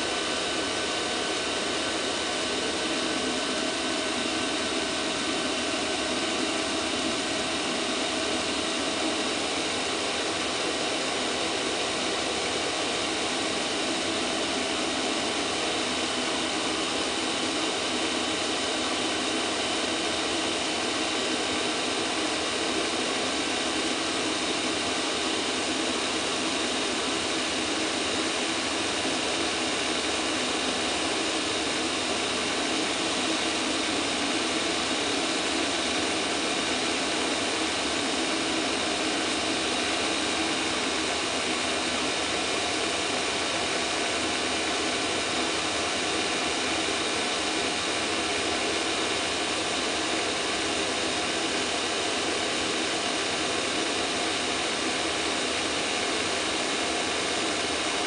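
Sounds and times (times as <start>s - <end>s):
air heater fan rushing: 0.0s - 58.0s
faint steady whine: 0.0s - 58.0s.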